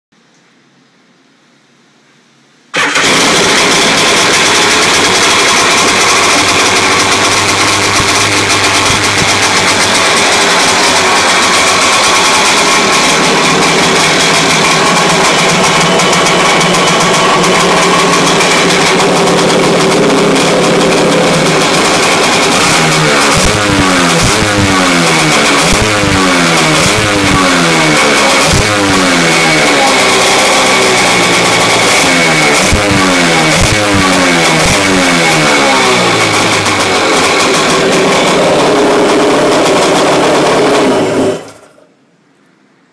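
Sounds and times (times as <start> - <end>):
engine revving with throttle blips: 2.8 - 41.7
jet ski engine running loud: 2.9 - 41.4.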